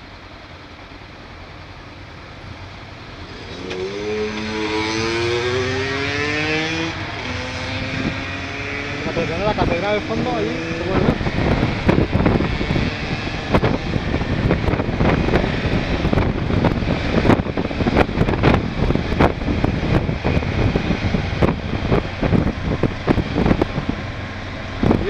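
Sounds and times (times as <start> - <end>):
motorcycle engine droning: 0.0 - 25.0.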